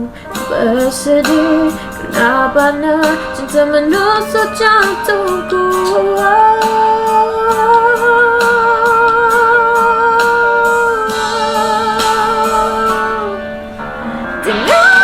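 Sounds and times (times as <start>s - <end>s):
woman singing with vibrato: 0.0s - 13.6s, 14.4s - 15.0s
backing track with beat and guitar: 0.1s - 15.0s.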